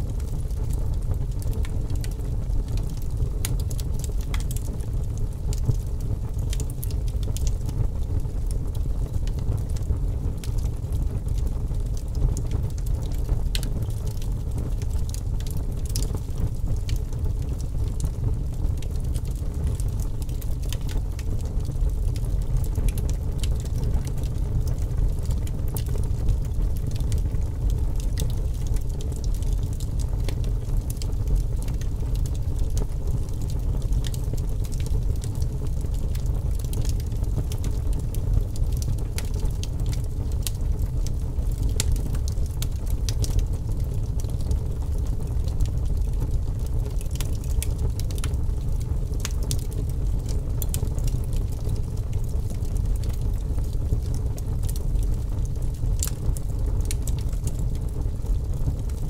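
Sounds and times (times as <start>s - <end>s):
fire crackling and popping: 0.0s - 59.0s
fire flames roaring: 0.1s - 59.0s.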